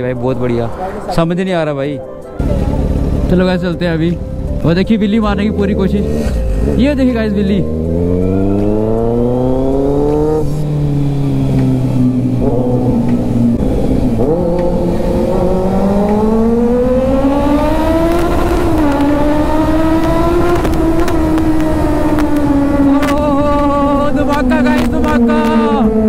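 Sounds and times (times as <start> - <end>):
motorcycle engine revving: 2.4 - 26.0.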